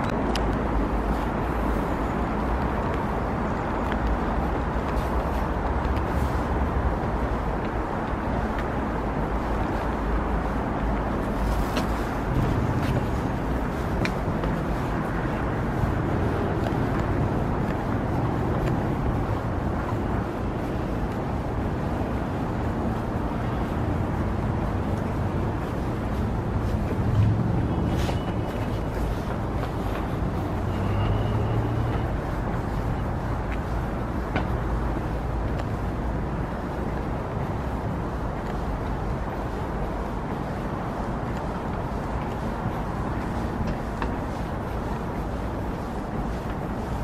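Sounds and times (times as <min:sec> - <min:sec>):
distant city traffic: 0:00.0 - 0:47.0
footsteps on boardwalk: 0:00.0 - 0:47.0.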